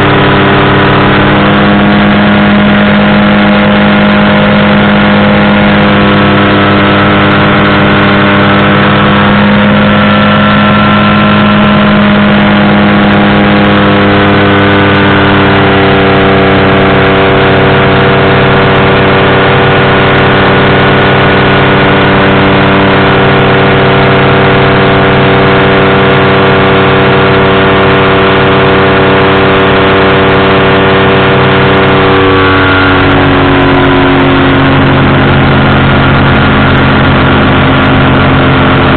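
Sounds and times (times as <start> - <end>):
engine and propeller running: 0.0 - 38.9.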